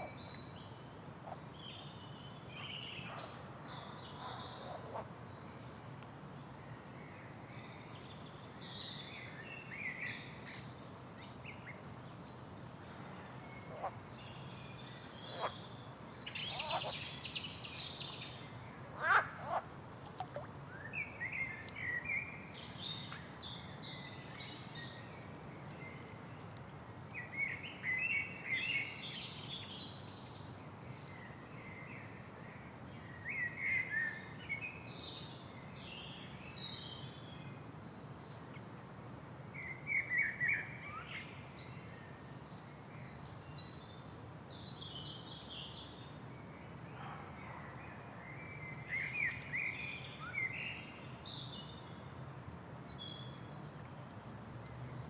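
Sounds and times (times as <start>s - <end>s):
low steady background noise: 0.0s - 55.0s.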